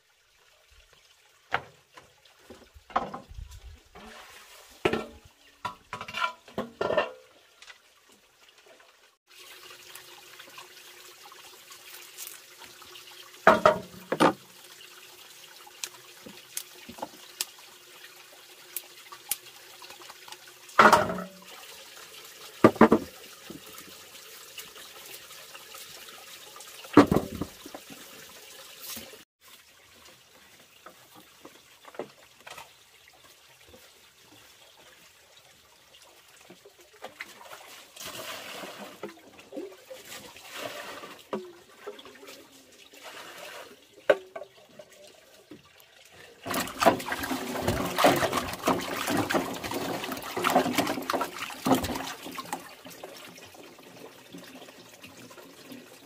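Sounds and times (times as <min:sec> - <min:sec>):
faint water trickle: 0:00.0 - 0:47.4
water poured and splashing: 0:00.0 - 0:56.0.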